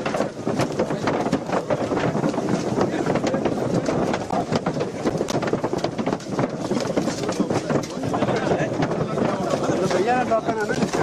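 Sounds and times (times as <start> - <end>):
crowd voices: 0.0 - 11.0
sharp clicks and knocks: 0.0 - 11.0.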